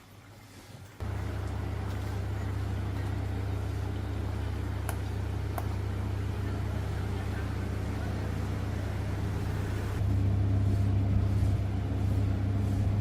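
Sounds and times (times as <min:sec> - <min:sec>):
ceiling fan motor hum: 0:01.0 - 0:13.0.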